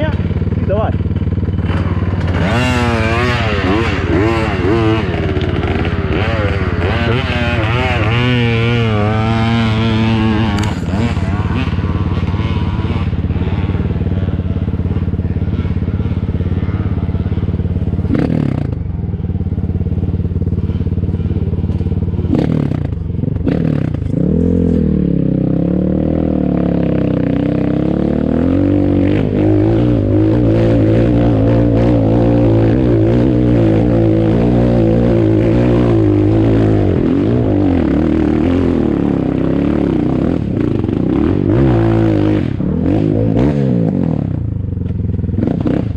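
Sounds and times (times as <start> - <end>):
dirt bike engine idling and revving: 0.0 - 45.9.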